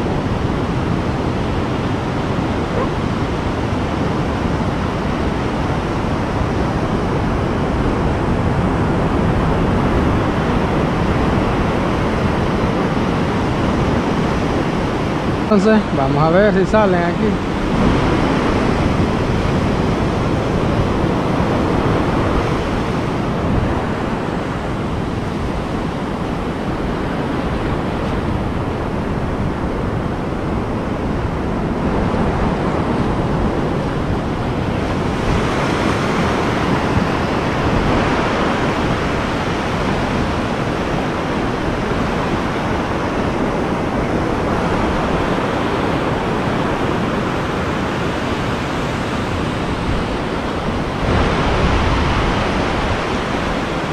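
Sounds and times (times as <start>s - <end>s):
ocean surf breaking on sand: 0.0s - 53.9s.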